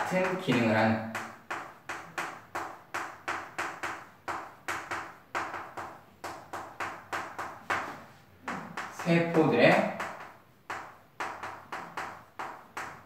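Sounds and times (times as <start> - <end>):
chalk writing on blackboard: 0.0 - 13.0.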